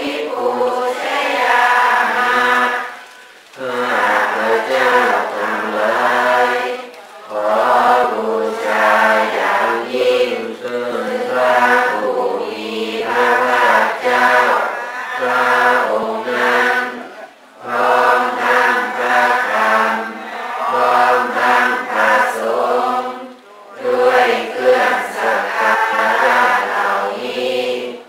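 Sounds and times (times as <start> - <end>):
voices chanting a prayer in unison: 0.0 - 28.0.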